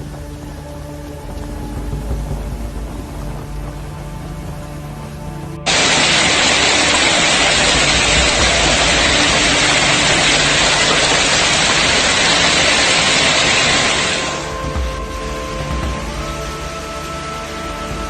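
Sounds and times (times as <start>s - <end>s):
heavy hail pounding: 0.0s - 18.0s.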